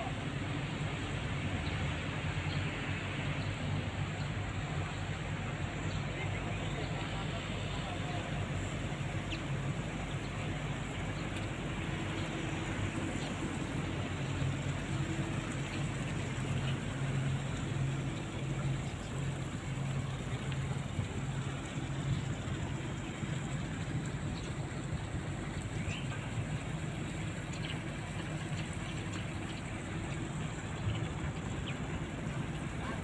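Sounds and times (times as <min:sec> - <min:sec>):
low pulsing engine hum: 0:00.0 - 0:33.0.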